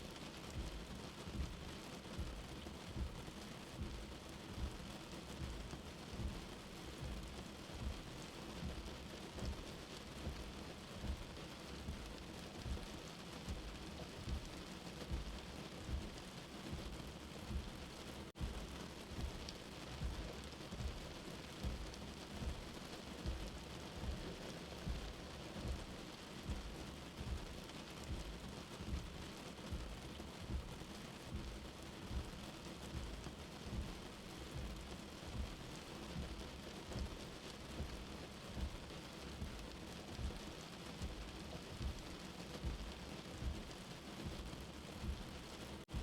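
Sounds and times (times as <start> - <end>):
rain falling: 0.0 - 46.0
heartbeat thumping: 0.5 - 46.0.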